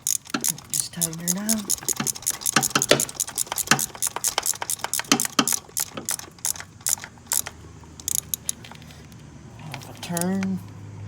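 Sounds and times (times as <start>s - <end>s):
hand ratchet clicking: 0.0s - 9.2s, 10.0s - 10.5s.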